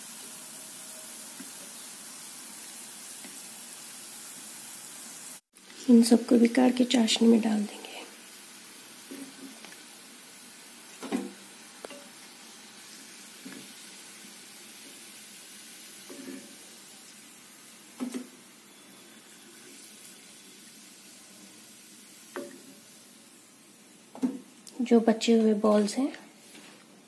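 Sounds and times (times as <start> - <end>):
hot oil sizzling: 0.0 - 26.7.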